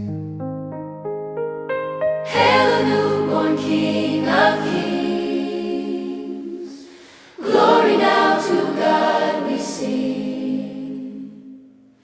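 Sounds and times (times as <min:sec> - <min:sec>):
choir singing sustained notes: 0:02.3 - 0:12.0.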